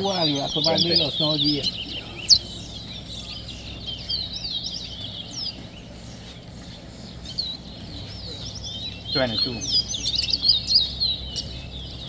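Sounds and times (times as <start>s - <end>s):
songbirds twittering: 0.0s - 12.0s.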